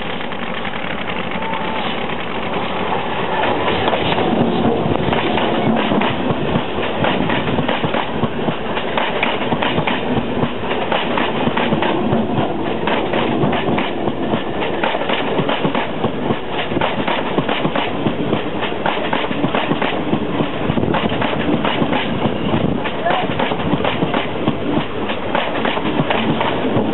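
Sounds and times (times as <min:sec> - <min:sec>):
train rumble: 0:00.0 - 0:26.9
train wheels clicking over rail joints: 0:00.0 - 0:26.9.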